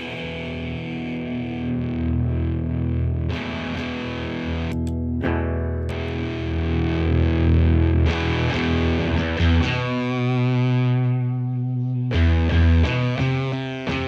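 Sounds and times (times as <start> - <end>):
fuzzed electric guitar chords: 0.0 - 14.0.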